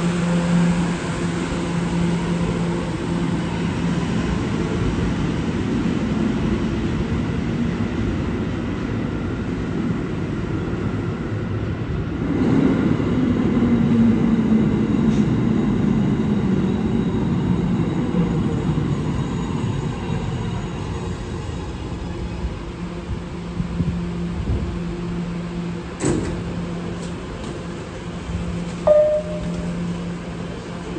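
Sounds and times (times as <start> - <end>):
subway train rumbling: 0.0 - 30.9.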